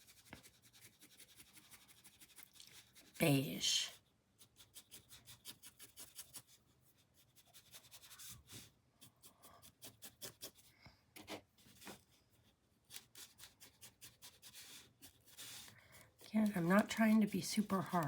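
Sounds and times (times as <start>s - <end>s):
paintbrush strokes on canvas: 0.0s - 18.0s.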